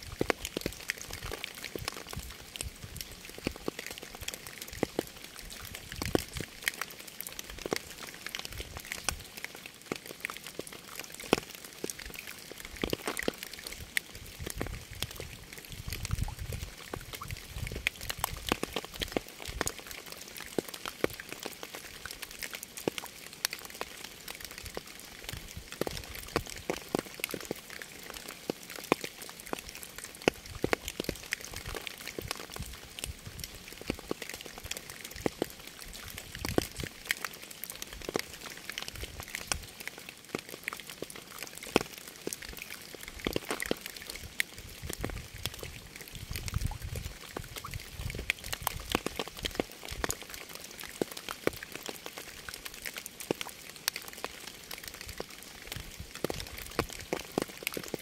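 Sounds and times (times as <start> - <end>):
rain drops striking surface: 0.0 - 58.0
rain hiss: 0.0 - 58.0.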